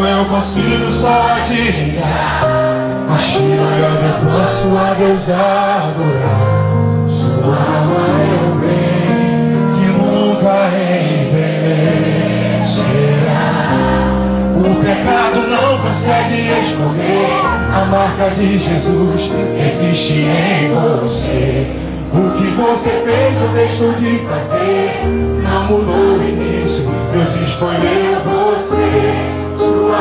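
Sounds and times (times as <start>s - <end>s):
gospel singing: 0.0s - 30.0s
keyboard and band playing: 0.0s - 30.0s.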